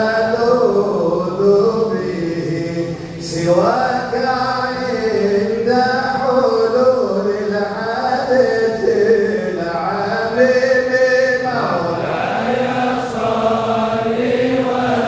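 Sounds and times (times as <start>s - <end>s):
man chanting into microphone: 0.0s - 15.0s.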